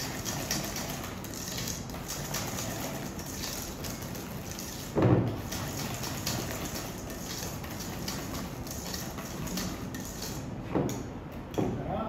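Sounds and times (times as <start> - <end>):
whisk scraping steel bowl: 0.0 - 10.6.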